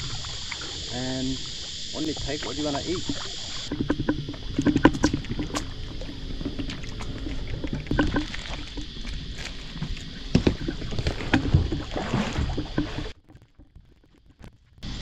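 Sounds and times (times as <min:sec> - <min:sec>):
water sloshing against paddleboard: 0:00.0 - 0:14.3.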